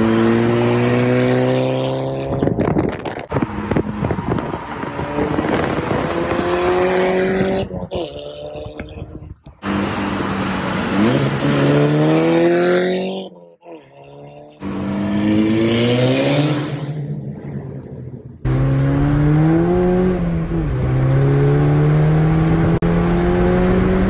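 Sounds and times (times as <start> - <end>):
car engine and exhaust accelerating: 0.0 - 24.0
wind and road noise: 0.0 - 24.0.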